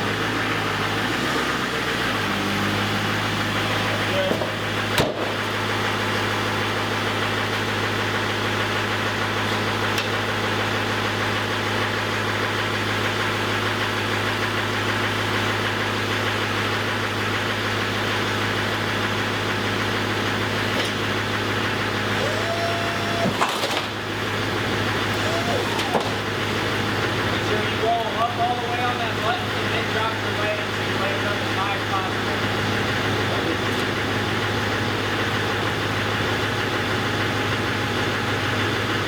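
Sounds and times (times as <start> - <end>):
vehicle engine idling: 0.0 - 39.0.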